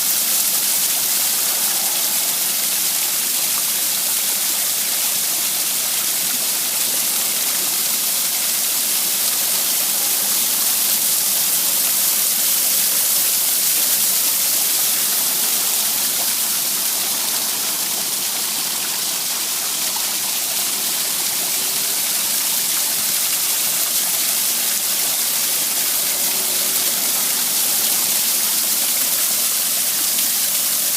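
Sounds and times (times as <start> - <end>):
water pouring over waterfall: 0.0 - 30.9.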